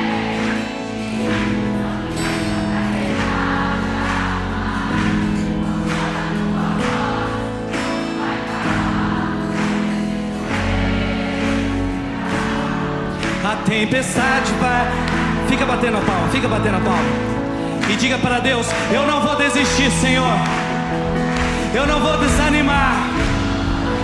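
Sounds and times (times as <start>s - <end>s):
band playing worship song: 0.0s - 24.0s
steady bass: 0.0s - 24.0s
voices singing along: 0.0s - 24.0s.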